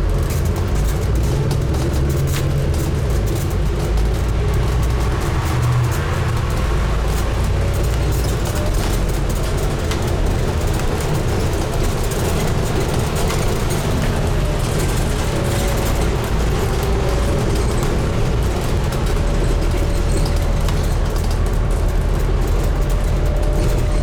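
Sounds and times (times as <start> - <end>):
diesel bus engine drone: 0.0 - 24.0
road noise: 0.0 - 24.0.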